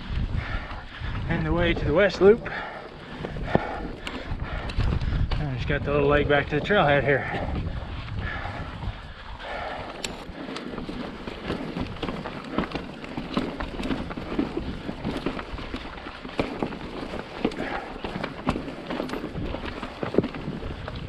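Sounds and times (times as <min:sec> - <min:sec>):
bike knocks and rattles: 0:00.0 - 0:07.7, 0:09.5 - 0:21.0
bike tyre rumble: 0:00.0 - 0:21.0.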